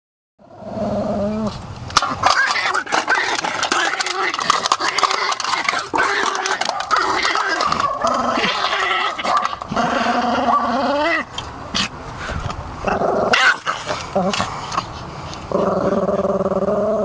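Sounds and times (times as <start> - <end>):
dog growling and whining: 0.4 - 1.6, 2.2 - 11.9, 12.8 - 14.5, 15.5 - 17.0.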